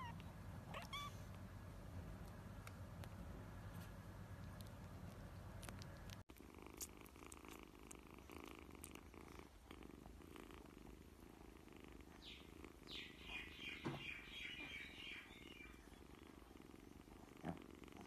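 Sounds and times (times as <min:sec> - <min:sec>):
kittens purring: 0:00.0 - 0:18.0.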